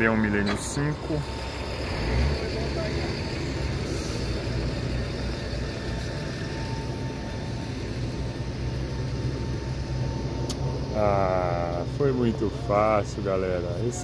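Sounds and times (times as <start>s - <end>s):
bus engines idling: 0.0s - 14.0s.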